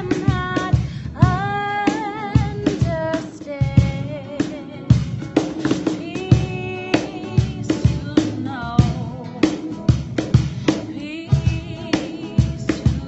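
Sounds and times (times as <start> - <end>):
guitar: 0.0 - 13.0
person singing: 0.0 - 13.0
steady drum beat: 0.0 - 13.0.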